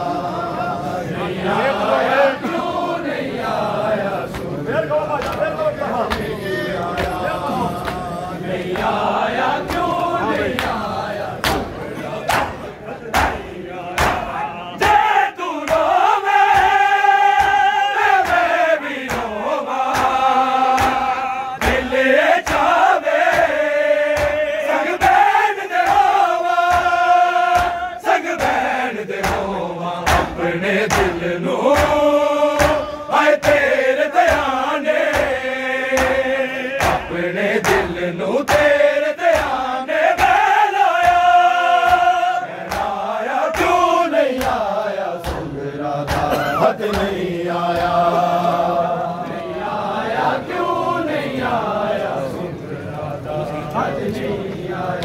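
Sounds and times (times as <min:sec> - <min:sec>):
men chanting a lament: 0:00.0 - 0:55.0
rhythmic sharp slaps: 0:01.8 - 0:51.7, 0:53.7 - 0:55.0.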